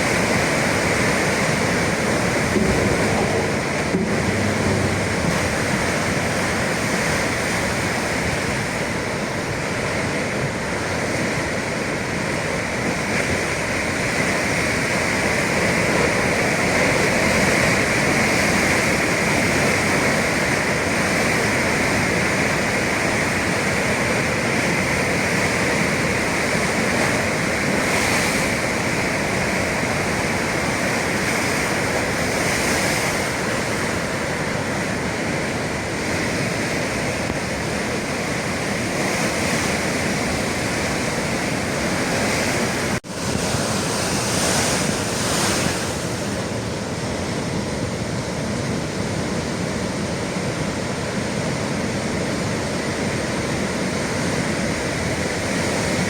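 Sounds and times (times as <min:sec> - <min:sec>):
waves washing and breaking: 0:00.0 - 0:56.0.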